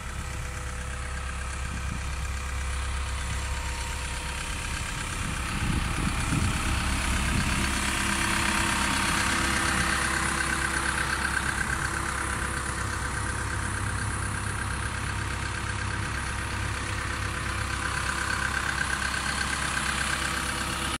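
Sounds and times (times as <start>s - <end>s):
road roller diesel engine running: 0.0s - 21.0s.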